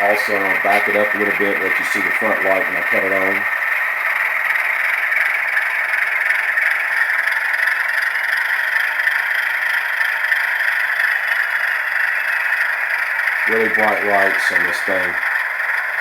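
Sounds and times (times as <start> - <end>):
diesel engine sound through small speaker: 0.0 - 16.0.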